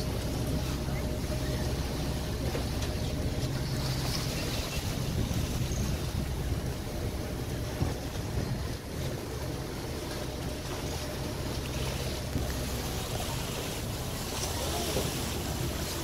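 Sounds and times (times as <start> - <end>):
boat engine humming: 0.0 - 16.0
water rushing along hull: 0.0 - 16.0.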